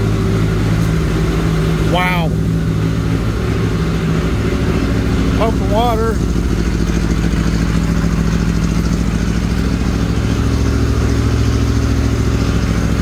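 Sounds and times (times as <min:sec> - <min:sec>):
boat engine running steadily: 0:00.0 - 0:13.0.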